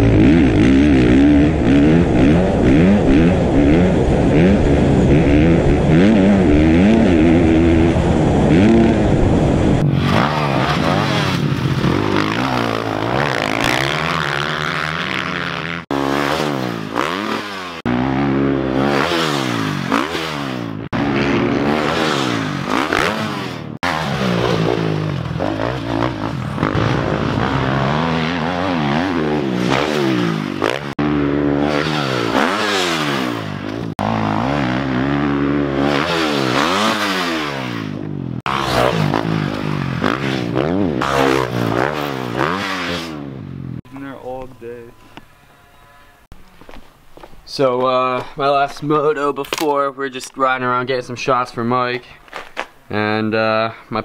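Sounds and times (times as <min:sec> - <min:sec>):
dirt bike engines revving: 0:00.0 - 0:46.4.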